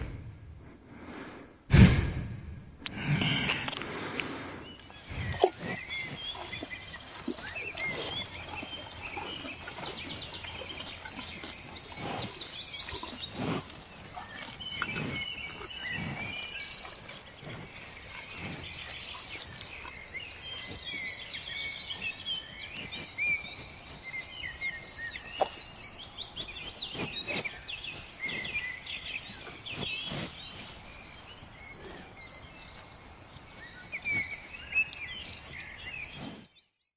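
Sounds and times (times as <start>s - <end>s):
small birds chirping: 2.8s - 36.9s.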